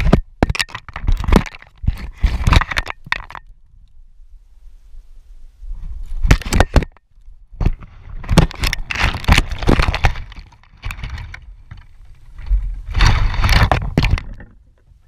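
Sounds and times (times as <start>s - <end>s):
branches scraping and cracking: 0.0s - 3.5s, 5.9s - 14.6s.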